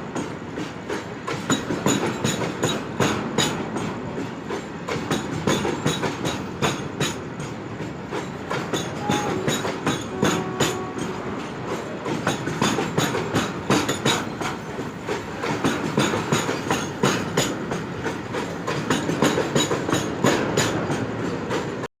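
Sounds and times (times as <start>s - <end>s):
train wheels clacking on rails: 0.0s - 21.9s.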